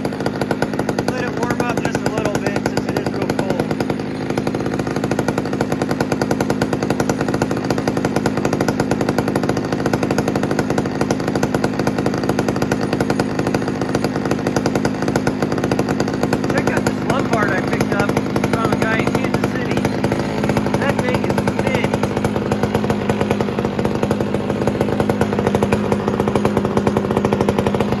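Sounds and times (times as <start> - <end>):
chainsaw engine running: 0.0 - 28.0.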